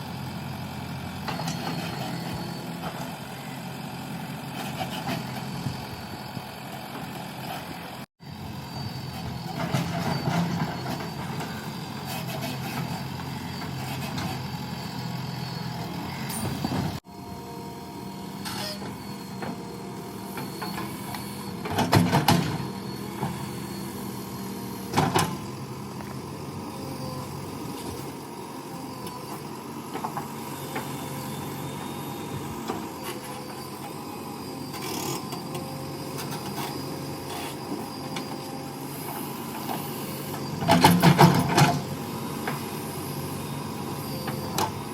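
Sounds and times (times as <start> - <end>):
diesel engine running while digging: 0.0 - 44.9.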